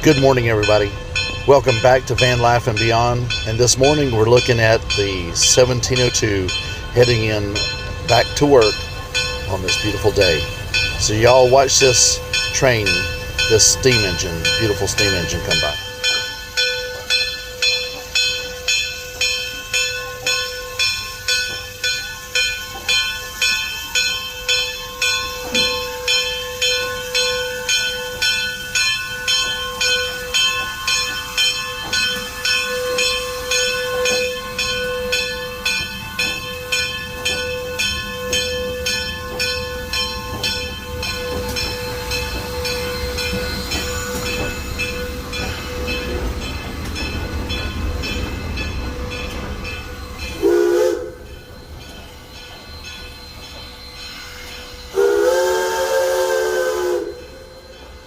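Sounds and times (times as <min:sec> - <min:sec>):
locomotive bell ringing: 0:00.0 - 0:58.0
low rumble of passing train: 0:00.0 - 0:58.0.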